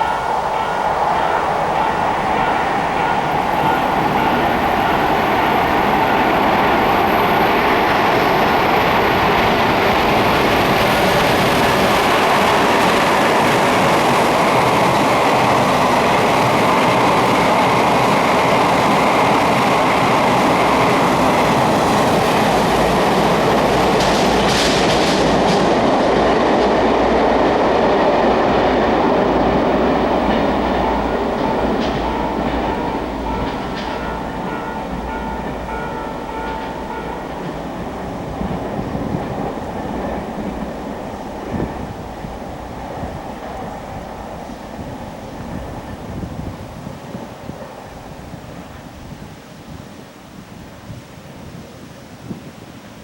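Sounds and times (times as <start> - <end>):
rail clatter: 0.0 - 47.2
train roaring through tunnel: 0.0 - 53.0.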